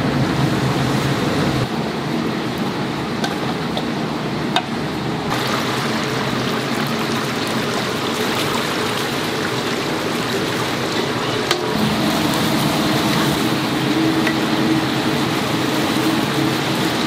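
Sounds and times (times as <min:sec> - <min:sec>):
oil sizzling while deep-frying: 0:00.0 - 0:17.0.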